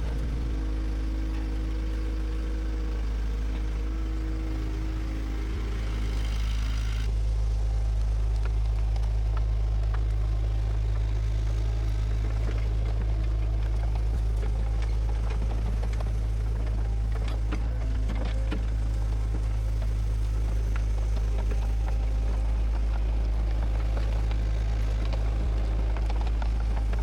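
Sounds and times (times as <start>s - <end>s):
bulldozer diesel engine droning: 0.0s - 27.0s.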